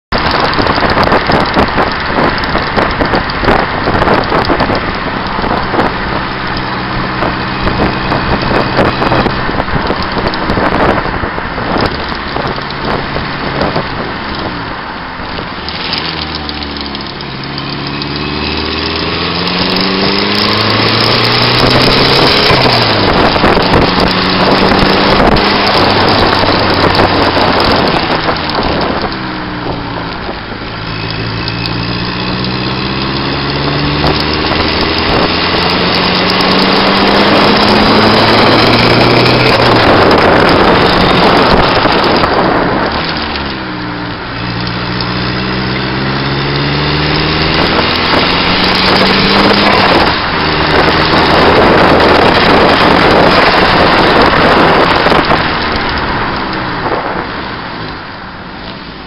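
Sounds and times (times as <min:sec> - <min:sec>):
car engine: 0:00.0 - 0:59.0
road noise: 0:00.0 - 0:59.0
wind noise: 0:00.1 - 0:59.0.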